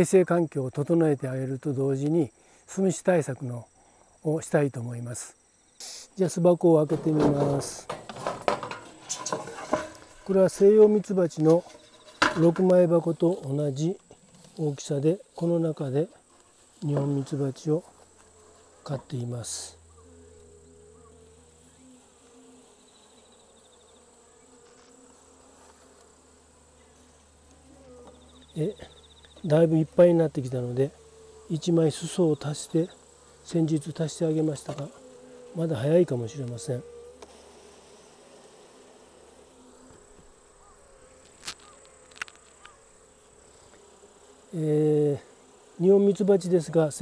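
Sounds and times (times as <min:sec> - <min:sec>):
bees buzzing faintly: 0:00.0 - 0:47.0.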